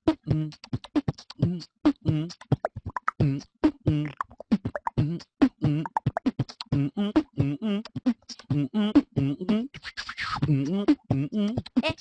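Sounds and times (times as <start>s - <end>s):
man beatboxing: 0.0s - 12.0s.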